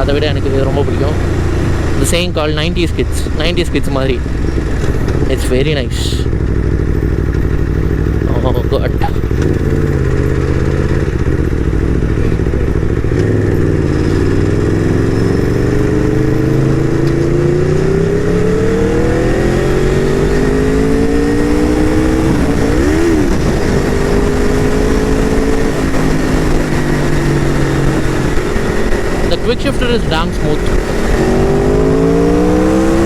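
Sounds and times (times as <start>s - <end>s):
motorcycle engine pulling: 0.0s - 33.0s.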